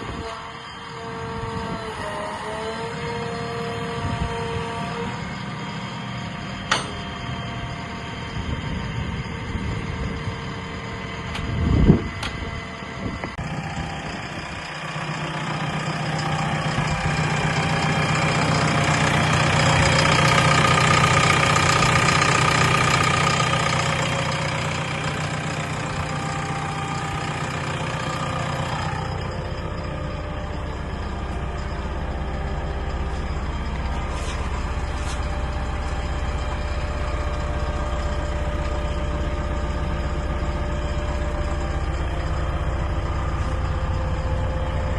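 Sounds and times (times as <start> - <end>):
diesel engine running and idling: 0.0 - 44.9.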